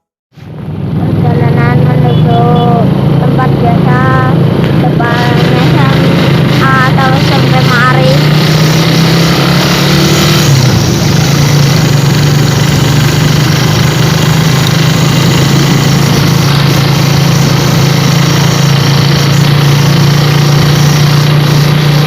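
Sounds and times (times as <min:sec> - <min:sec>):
vehicle engine droning: 0:00.4 - 0:22.0.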